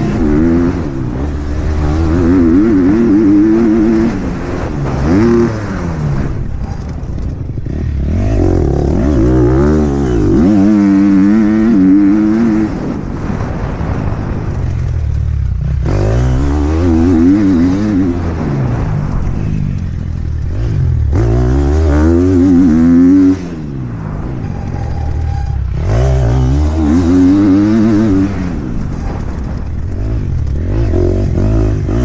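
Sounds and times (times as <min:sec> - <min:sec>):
dirt bike engine revving: 0:00.0 - 0:14.5, 0:15.2 - 0:32.0.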